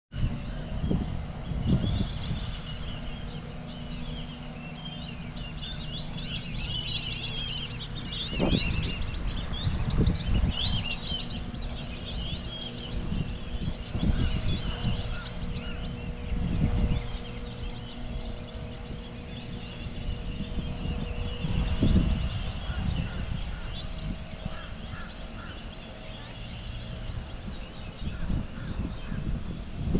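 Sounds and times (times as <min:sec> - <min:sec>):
steady low rumble: 0:00.1 - 0:29.9
flock of small birds chirping: 0:00.2 - 0:29.9.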